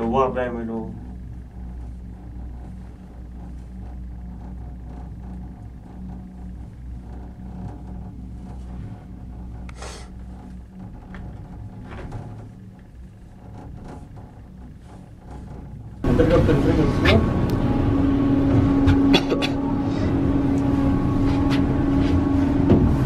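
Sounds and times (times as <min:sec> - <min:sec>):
gondola cabin rumble and hum: 0:00.0 - 0:23.0.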